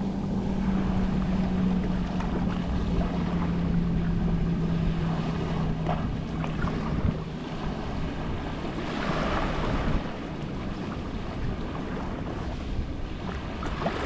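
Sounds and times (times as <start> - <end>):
low steady hum: 0.0 - 14.0
waves lapping on shore: 0.0 - 14.0.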